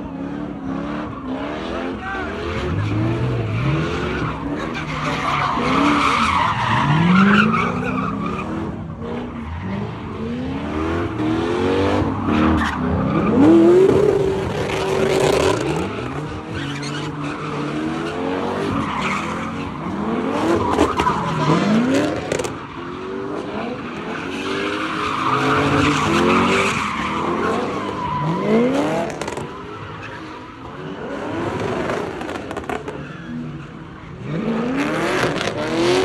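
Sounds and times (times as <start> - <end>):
car engine revving: 0.0 - 36.0
tyres squealing on pavement: 1.0 - 10.3, 11.9 - 36.0.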